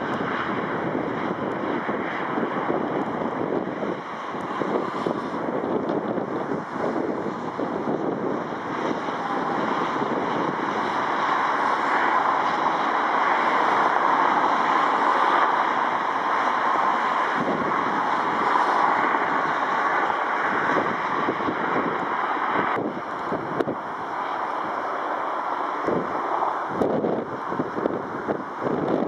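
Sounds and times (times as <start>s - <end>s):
distant jet engines: 0.0s - 29.0s
wind buffeting microphone: 0.0s - 29.0s.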